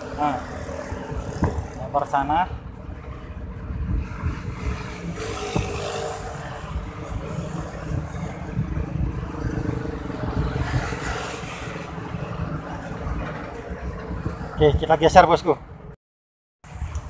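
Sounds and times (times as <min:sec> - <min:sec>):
road traffic rumble: 0:00.0 - 0:16.0, 0:16.6 - 0:17.0.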